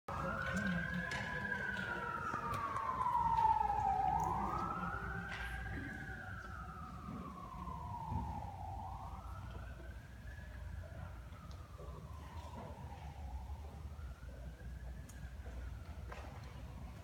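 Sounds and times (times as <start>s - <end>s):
emergency vehicle siren wailing: 0.1s - 17.0s.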